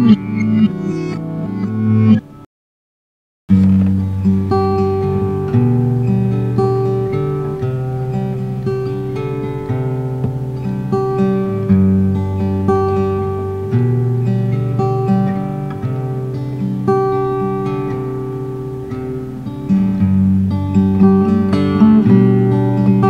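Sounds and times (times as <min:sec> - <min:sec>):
acoustic guitar music: 0:00.0 - 0:02.4, 0:03.5 - 0:23.0.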